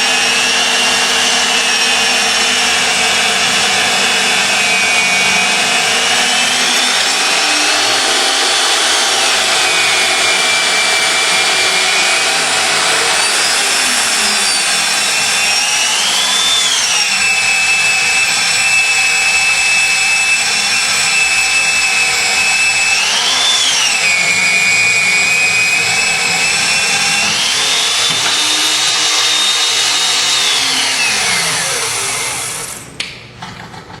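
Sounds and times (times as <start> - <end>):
drilling machine motor whining: 0.0 - 33.0.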